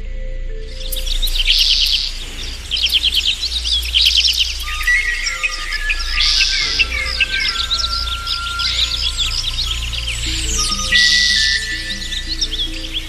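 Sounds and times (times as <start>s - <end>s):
steady low hum: 0.5s - 13.0s
birds chirping: 0.7s - 13.0s.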